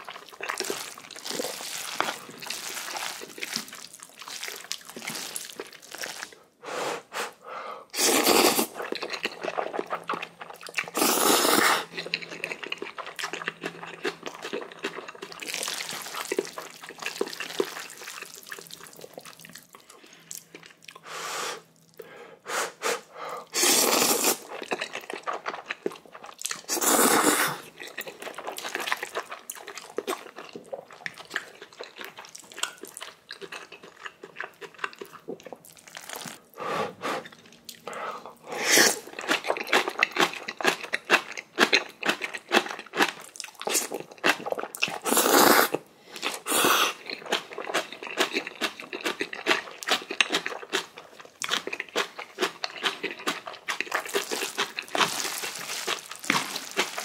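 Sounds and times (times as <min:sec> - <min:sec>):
chewing and crunching: 0:00.0 - 0:06.4, 0:08.3 - 0:21.0, 0:23.7 - 0:36.5, 0:37.2 - 0:57.0
loud eating noises: 0:00.0 - 0:06.4, 0:07.9 - 0:21.0, 0:23.5 - 0:57.0.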